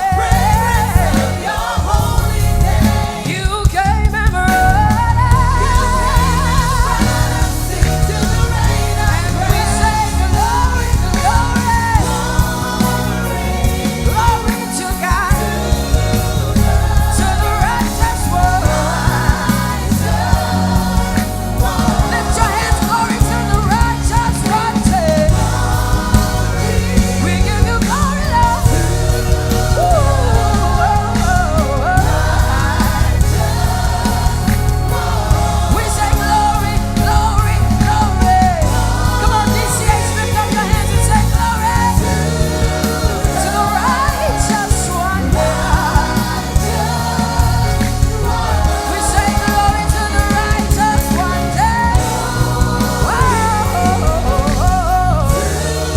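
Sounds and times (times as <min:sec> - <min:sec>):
band with bass and drums: 0:00.0 - 0:55.9
choir singing gospel song: 0:00.0 - 0:55.9.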